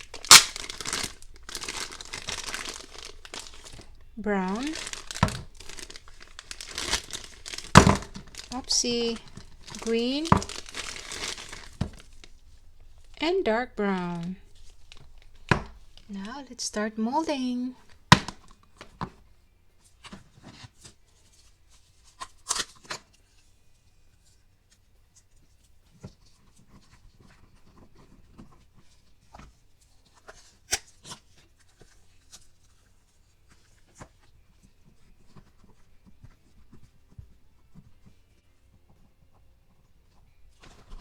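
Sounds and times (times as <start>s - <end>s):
hands working modelling clay: 0.0s - 41.0s.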